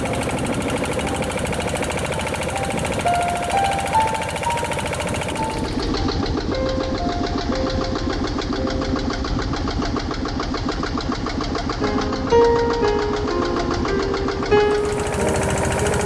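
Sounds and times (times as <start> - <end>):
boat engine puttering: 0.0 - 16.0.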